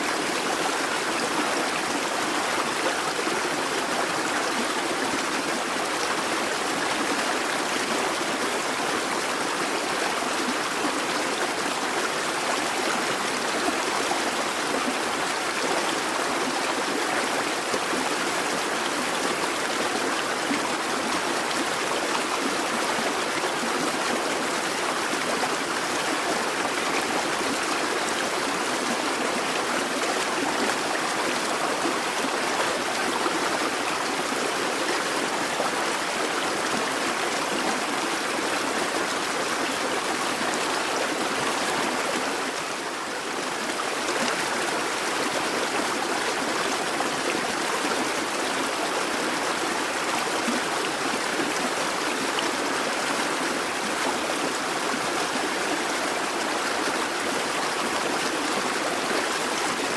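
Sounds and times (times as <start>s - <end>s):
babbling brook: 0.0s - 59.9s.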